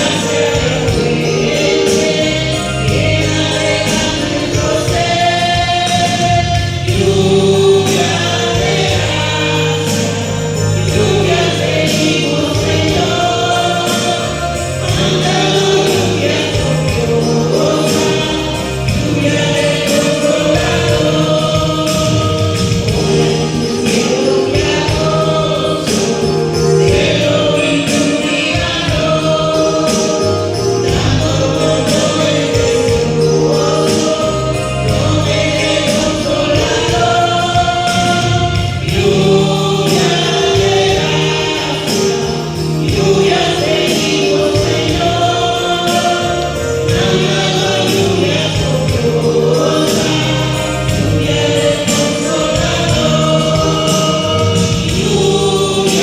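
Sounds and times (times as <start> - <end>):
band accompaniment: 0.0 - 56.0
choir singing a hymn: 0.0 - 56.0.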